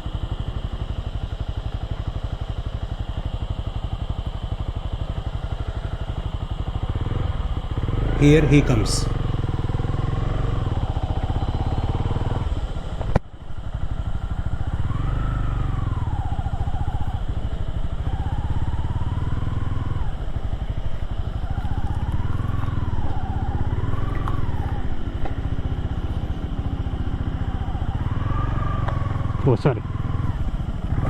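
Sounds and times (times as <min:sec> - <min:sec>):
motorcycle engine revving: 0:03.1 - 0:31.0.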